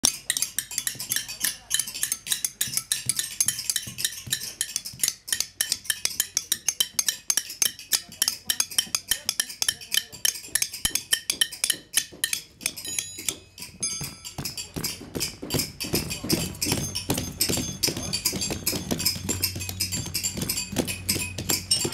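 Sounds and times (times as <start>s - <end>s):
metal hand tools clicking and tapping: 0.0s - 21.9s
metallic ringing tones: 0.0s - 21.9s.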